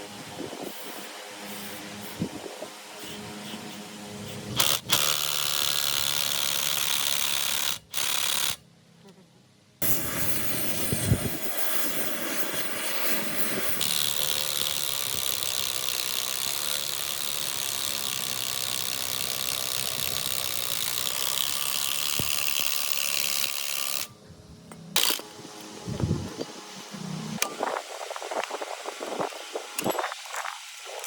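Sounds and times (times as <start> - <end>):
power tool running: 0.6 - 8.6, 9.8 - 24.1, 24.9 - 31.0.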